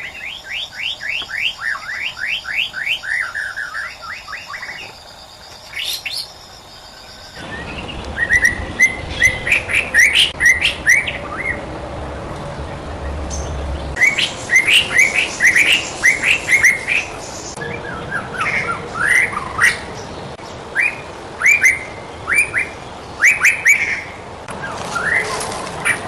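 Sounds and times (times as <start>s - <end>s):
bird singing whistled notes: 0.0s - 11.6s, 13.4s - 19.8s, 20.7s - 25.3s.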